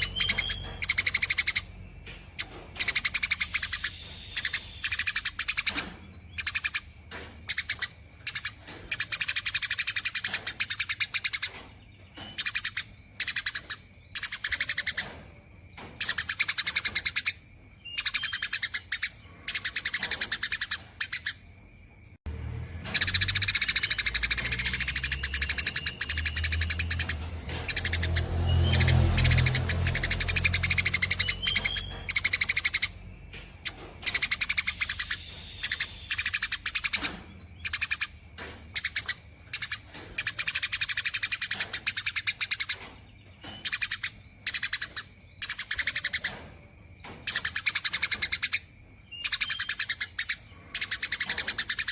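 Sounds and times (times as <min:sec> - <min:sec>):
sparrow chattering: 0:00.0 - 0:22.2, 0:22.8 - 0:51.9.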